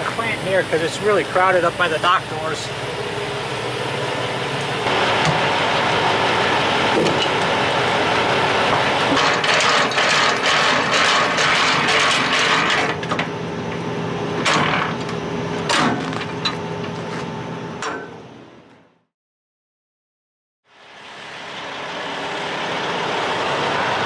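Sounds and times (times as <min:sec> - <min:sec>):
truck engine running: 0:00.0 - 0:18.7, 0:20.8 - 0:24.0.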